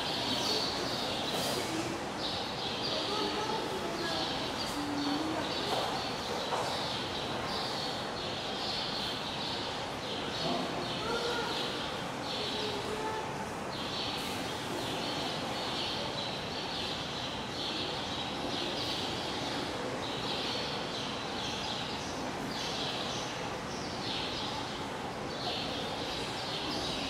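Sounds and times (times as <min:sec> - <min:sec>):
background hiss and hubbub: 0:00.0 - 0:27.0.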